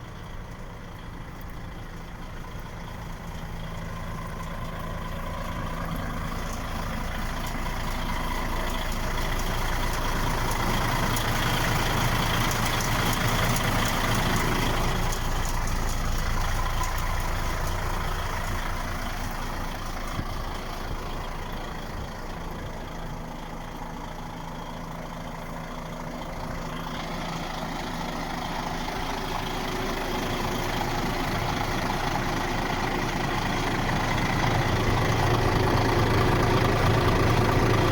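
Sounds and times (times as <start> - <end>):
diesel truck engine idling: 0.0 - 37.9.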